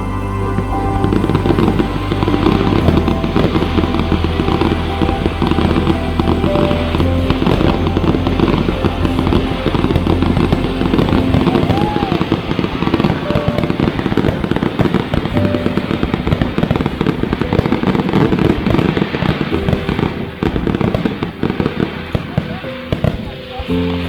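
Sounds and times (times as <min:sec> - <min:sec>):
people's voices: 0:00.0 - 0:24.0
fireworks bursting and crackling: 0:01.0 - 0:24.0.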